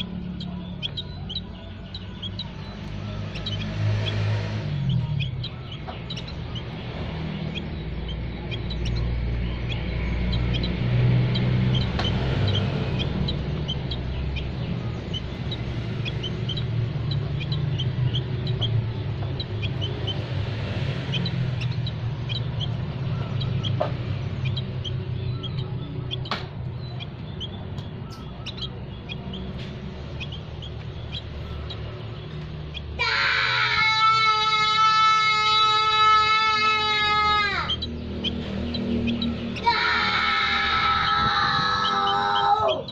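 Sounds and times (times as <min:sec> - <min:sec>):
small songbirds chirping: 0:00.0 - 0:42.9.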